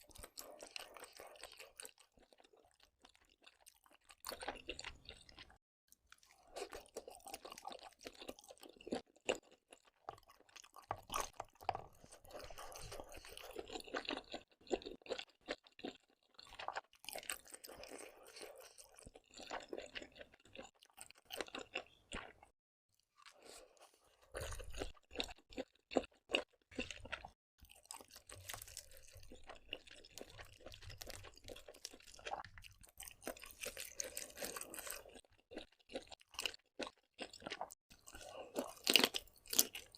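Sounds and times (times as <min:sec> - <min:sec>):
chewing and crunching seafood: 0:00.0 - 0:39.9.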